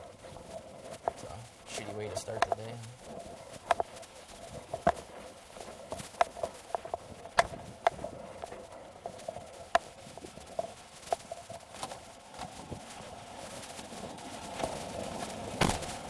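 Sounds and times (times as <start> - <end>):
gear clicking and knocking: 0.0 - 12.8, 14.1 - 16.0
footsteps on pavement: 0.0 - 16.0.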